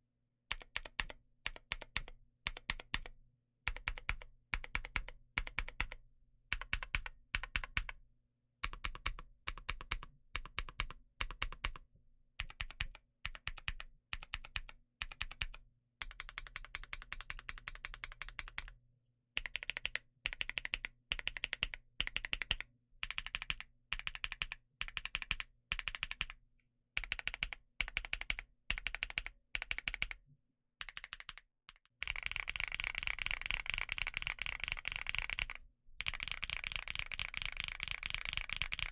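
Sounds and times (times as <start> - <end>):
typing on mechanical keyboard: 0.5 - 3.1, 3.7 - 8.0, 8.6 - 11.8, 12.4 - 18.7, 19.4 - 26.4, 27.0 - 30.2, 30.8 - 38.9.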